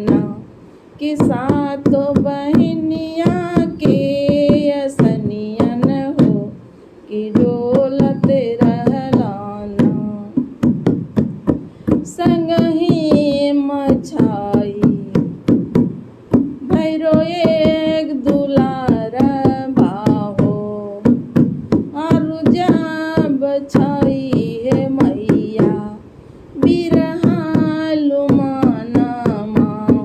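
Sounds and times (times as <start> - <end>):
woman singing: 0.0 - 10.6, 11.9 - 15.4, 16.3 - 30.0
hand drum strokes: 0.0 - 30.0.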